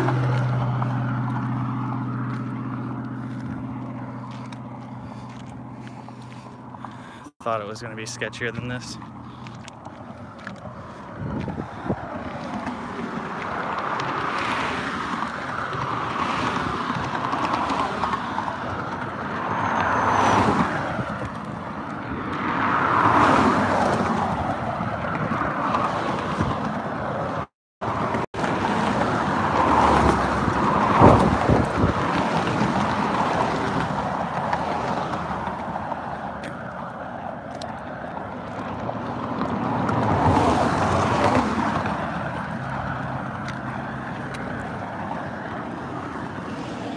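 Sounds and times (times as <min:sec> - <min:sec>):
cars passing close by: 0:00.0 - 0:46.9.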